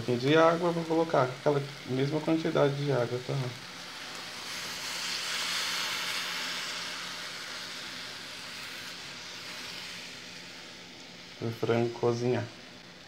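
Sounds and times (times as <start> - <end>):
water sizzling in hot frying pan: 0.0 - 13.0.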